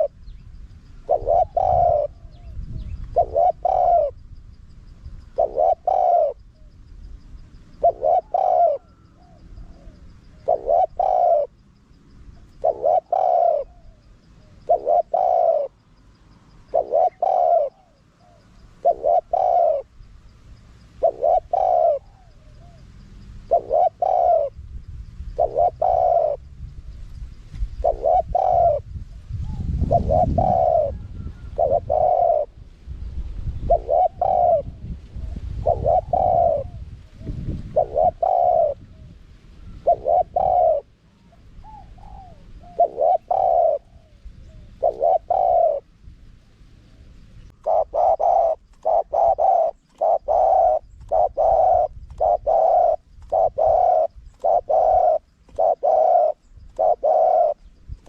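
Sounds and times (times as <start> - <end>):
dove cooing: 0.0 - 4.3, 5.2 - 6.8, 7.7 - 11.6, 12.3 - 15.8, 16.5 - 20.0, 20.9 - 24.6, 25.3 - 26.5, 27.6 - 32.7, 33.5 - 46.0, 47.4 - 58.0.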